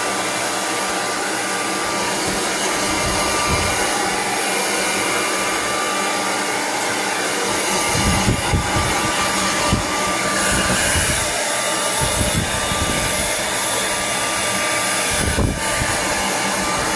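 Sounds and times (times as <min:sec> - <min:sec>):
hair dryer blowing: 0:00.0 - 0:16.9.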